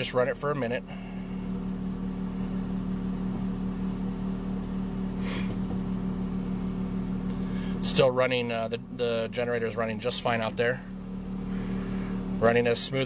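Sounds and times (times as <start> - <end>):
generator running: 0.0 - 13.0
microwave oven humming: 0.0 - 13.0.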